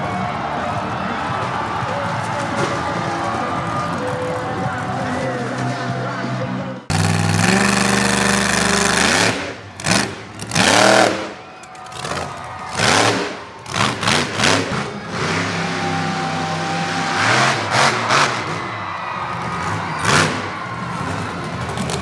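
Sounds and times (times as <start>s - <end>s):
monster truck engine revving: 2.3s - 22.0s.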